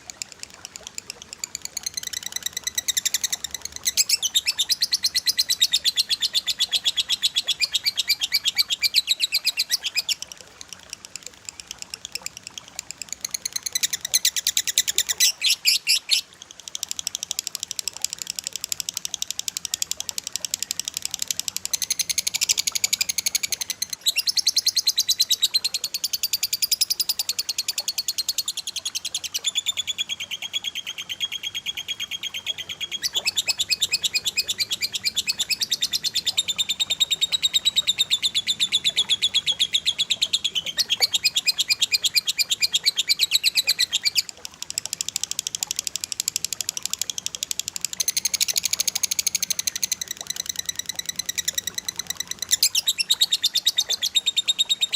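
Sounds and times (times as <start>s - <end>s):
cage birds singing fast trills: 1.0s - 10.2s, 11.9s - 16.3s, 19.6s - 44.3s, 48.0s - 54.9s.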